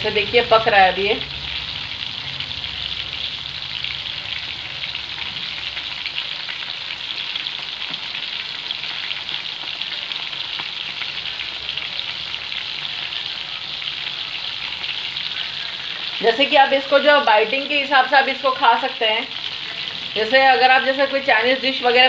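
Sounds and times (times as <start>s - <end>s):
prawns deep-frying in oil: 0.0s - 22.0s.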